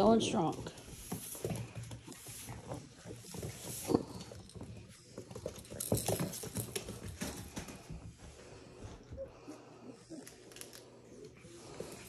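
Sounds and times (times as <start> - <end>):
puppies' paws pattering: 0.0 - 12.0.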